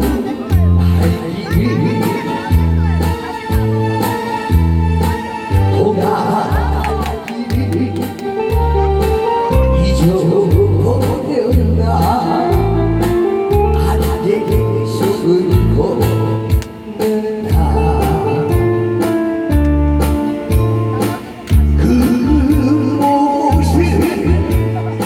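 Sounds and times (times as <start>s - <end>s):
repeating bass line: 0.0s - 16.6s, 17.5s - 25.0s
music with steady beat: 0.0s - 25.0s
person singing: 0.0s - 25.0s.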